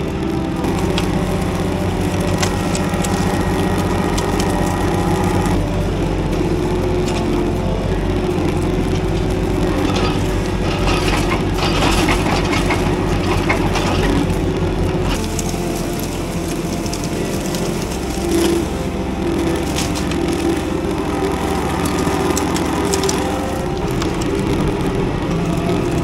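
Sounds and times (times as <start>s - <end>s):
branches cracking and splintering: 0.0s - 26.0s
loader engine running: 0.0s - 26.0s.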